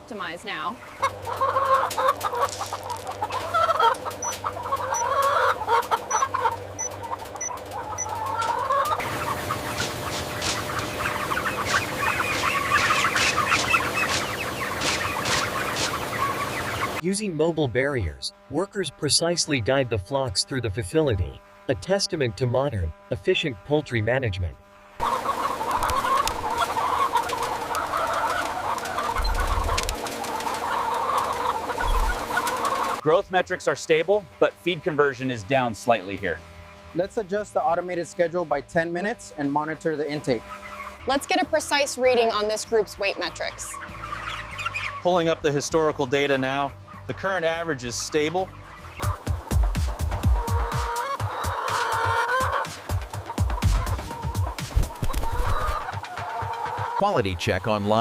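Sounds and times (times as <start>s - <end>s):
chickens clucking: 0.0s - 22.0s, 25.0s - 58.0s
steady low hum: 0.0s - 51.3s.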